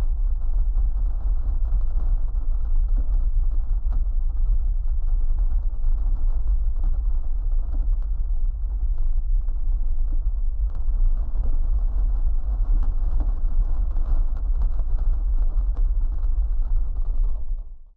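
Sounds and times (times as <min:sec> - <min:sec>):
avalanche deep rumble: 0:00.0 - 0:17.7.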